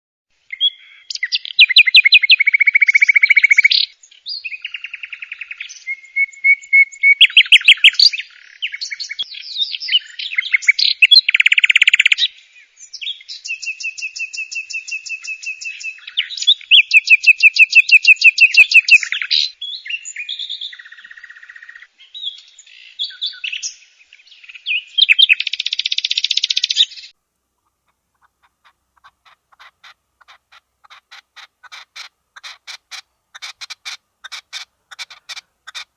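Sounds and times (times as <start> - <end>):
songbird trilling song: 0.4 - 35.9.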